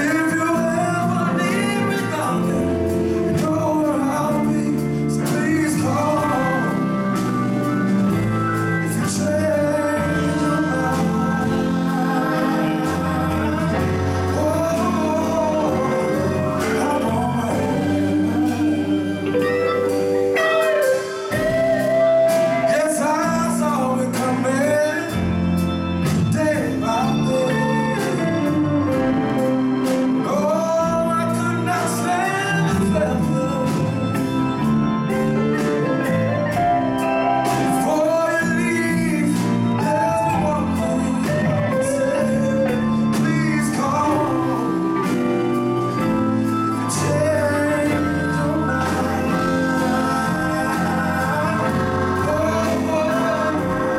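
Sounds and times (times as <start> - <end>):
drums: 0.0 - 53.9
electric guitars: 0.0 - 53.9
man singing: 0.0 - 53.9
organ: 0.0 - 53.9.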